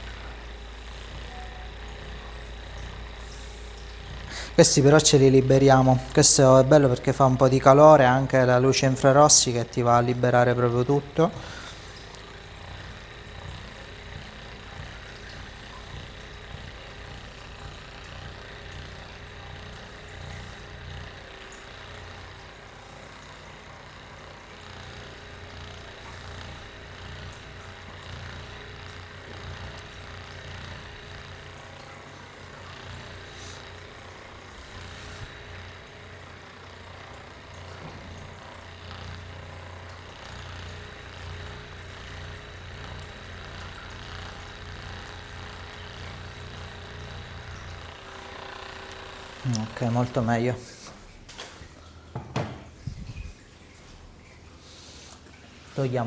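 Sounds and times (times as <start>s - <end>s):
massage device buzzing hum: 0.0s - 56.0s.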